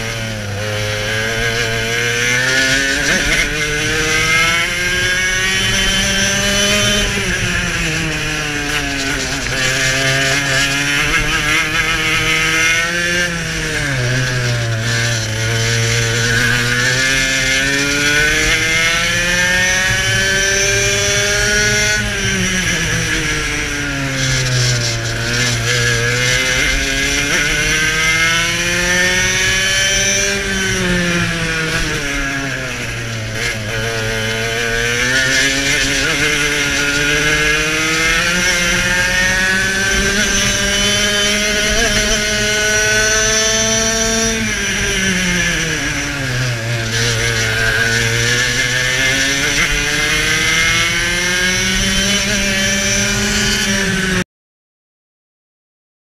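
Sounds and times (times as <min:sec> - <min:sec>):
kart engine racing: 0:00.0 - 0:54.2.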